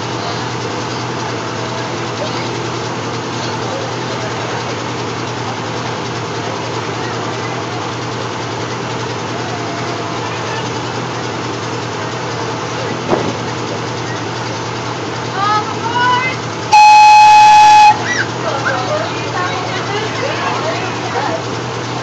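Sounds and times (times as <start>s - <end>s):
locomotive engine idling: 0.0s - 22.0s.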